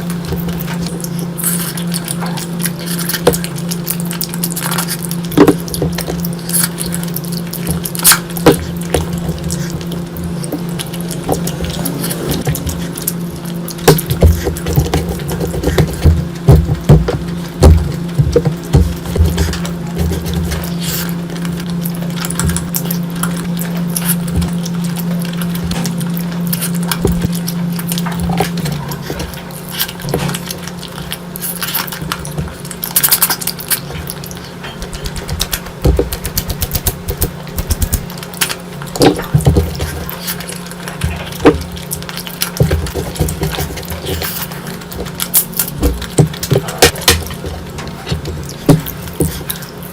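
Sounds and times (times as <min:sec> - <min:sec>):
steady low hum: 0:00.0 - 0:49.9
wet chewing and smacking: 0:00.0 - 0:49.9.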